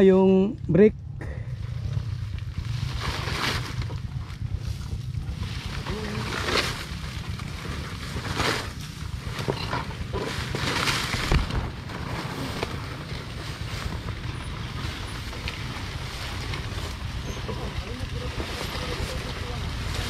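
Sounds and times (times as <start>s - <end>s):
motorcycle riding: 0.0s - 20.0s
wind rumble on microphone: 0.4s - 20.0s.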